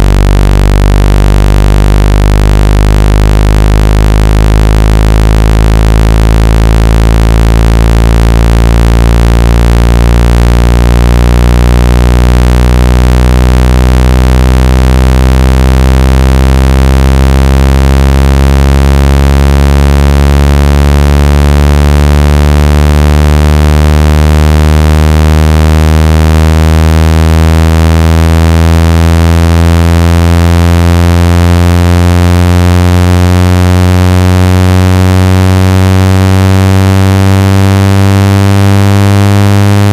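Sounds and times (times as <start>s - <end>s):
low buzzing tone rising in pitch: 0.0s - 39.9s.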